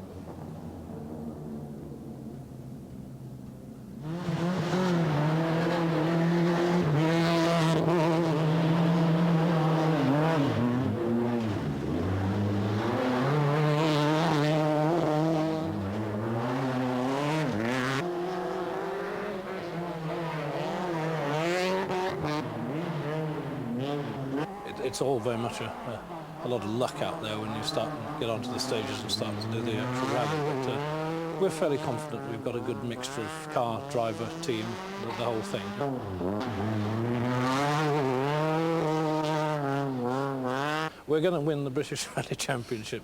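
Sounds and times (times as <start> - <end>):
rally car engine revving: 0.0 - 41.1.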